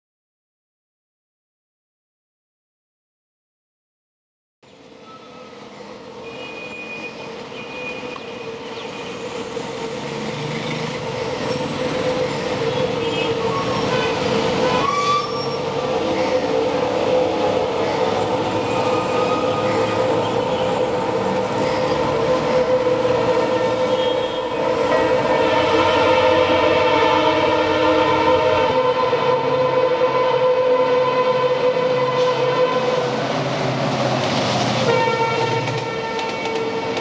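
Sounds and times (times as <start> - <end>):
diesel locomotive engine drone: 4.6 - 37.0
train rumble: 4.7 - 37.0.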